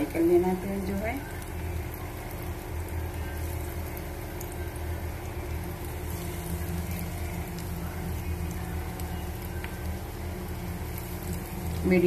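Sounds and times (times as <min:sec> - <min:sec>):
cheese balls deep-frying in oil: 0:00.0 - 0:12.0
steady low hum: 0:00.0 - 0:12.0.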